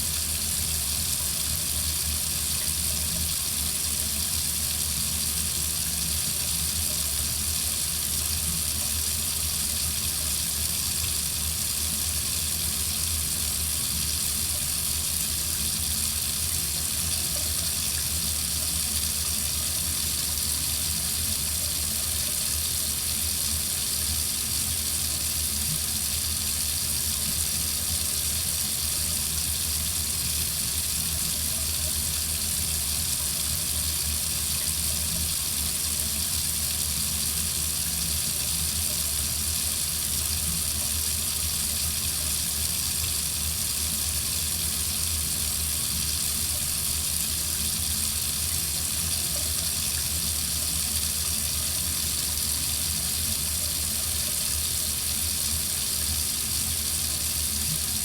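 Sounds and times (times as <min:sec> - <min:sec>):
water faucet running: 0:00.0 - 0:58.0.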